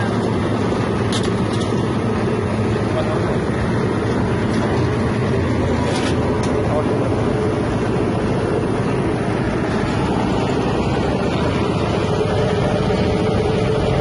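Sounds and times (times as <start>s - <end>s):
machine humming and rumbling: 0.0s - 14.0s.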